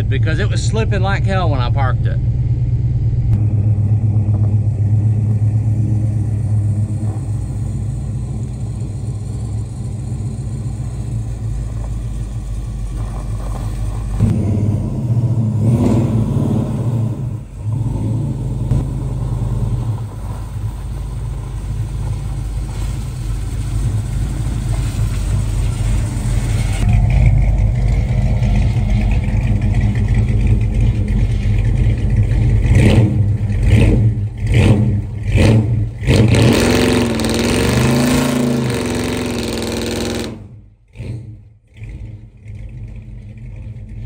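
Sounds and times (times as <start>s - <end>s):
car engine rumbling: 0.0s - 44.0s.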